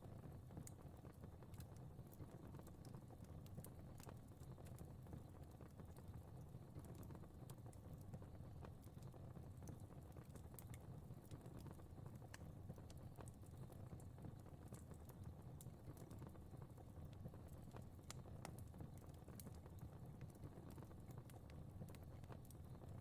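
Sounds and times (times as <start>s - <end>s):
crackling fire: 0.0s - 23.0s.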